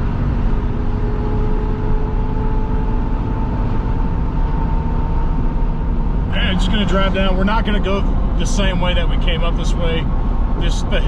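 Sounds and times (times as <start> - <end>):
diesel truck engine pulling hard: 0.0 - 11.0.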